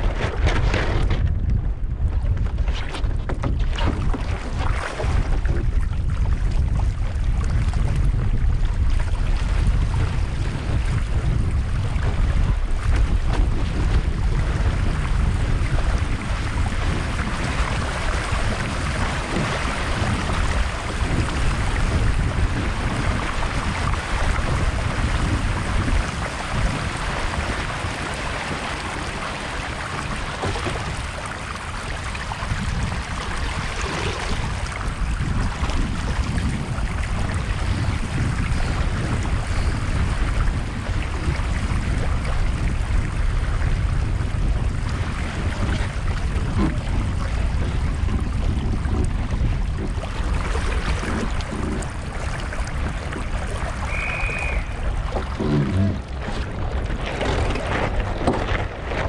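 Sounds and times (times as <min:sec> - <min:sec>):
water splashing along hull: 0:00.0 - 0:59.0
wind buffeting microphone: 0:00.0 - 0:59.0.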